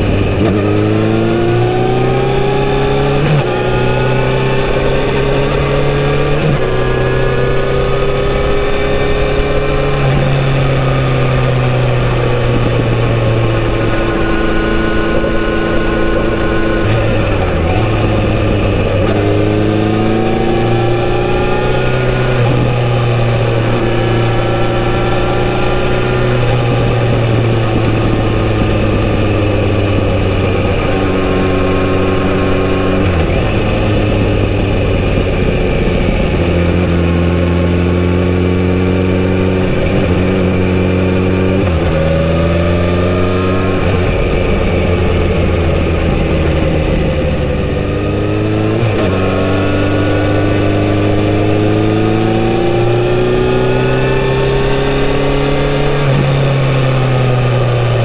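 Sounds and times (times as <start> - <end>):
motorcycle engine upshifting: 0.0 - 58.0.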